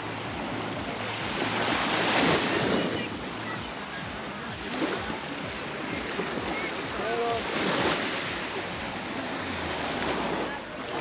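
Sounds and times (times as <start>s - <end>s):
surf washing onto sandy beach: 0.0s - 11.0s.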